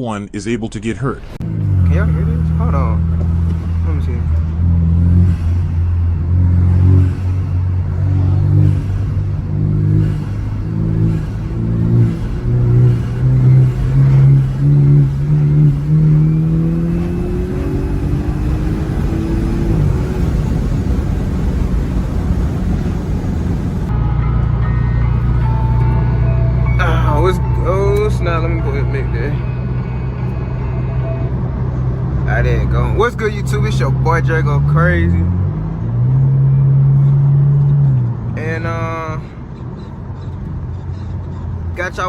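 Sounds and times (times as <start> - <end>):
car engine revving: 1.3 - 42.0.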